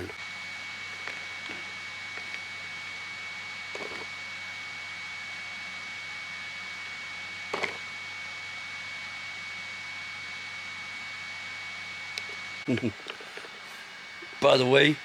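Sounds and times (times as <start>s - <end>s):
high-pitched whine: 0.0s - 15.0s
room noise hiss: 0.0s - 15.0s.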